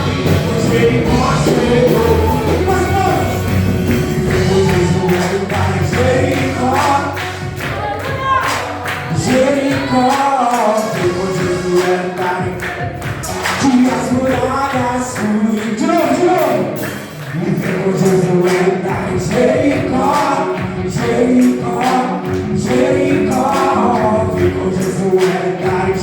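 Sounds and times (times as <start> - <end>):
band accompaniment: 0.0 - 26.0
group singing gospel song: 0.0 - 26.0.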